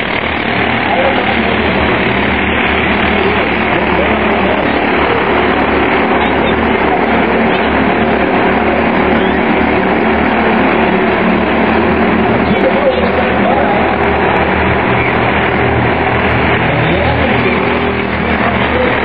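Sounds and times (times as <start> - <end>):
race car engines at speed: 0.0 - 19.0.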